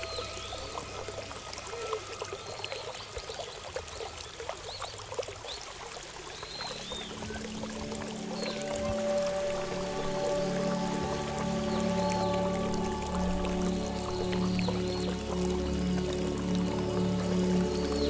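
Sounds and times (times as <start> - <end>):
water pouring and splashing: 0.0 - 18.0.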